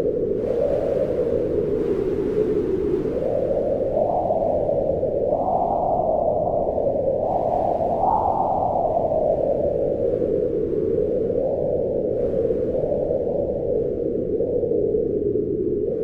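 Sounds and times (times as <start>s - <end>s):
wind rushing in gusts: 0.0s - 16.0s.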